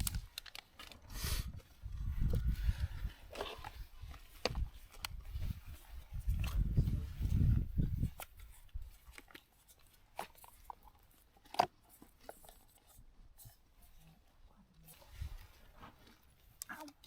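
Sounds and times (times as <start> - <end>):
crunching chews: 0.0 - 14.2.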